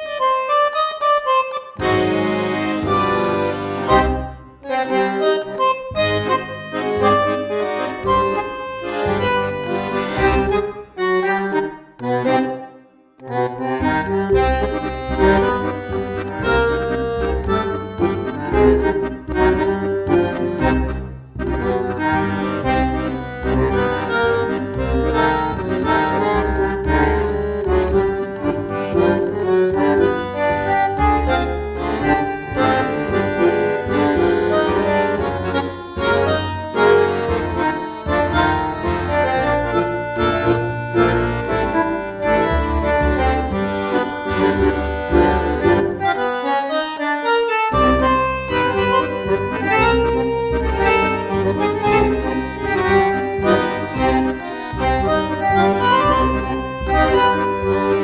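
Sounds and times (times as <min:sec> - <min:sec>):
tango music with accordion: 0:00.0 - 0:58.0.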